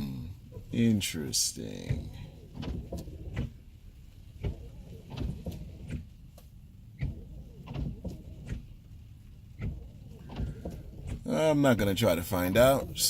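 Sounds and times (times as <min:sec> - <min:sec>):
low steady rumble: 0:00.0 - 0:13.0
soft thumps and clicks: 0:00.0 - 0:13.0.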